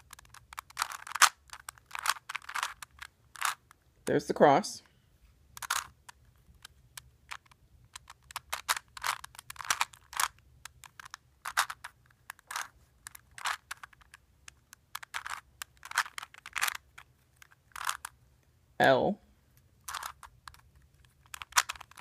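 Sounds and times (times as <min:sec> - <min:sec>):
puzzle cube clicking when twisted: 0:00.0 - 0:04.2, 0:05.6 - 0:18.2, 0:19.8 - 0:22.0.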